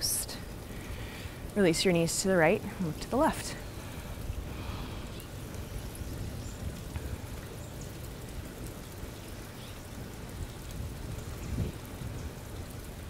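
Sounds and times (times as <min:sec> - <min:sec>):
rain hissing: 0:00.0 - 0:13.0
raindrops ticking: 0:00.0 - 0:13.0.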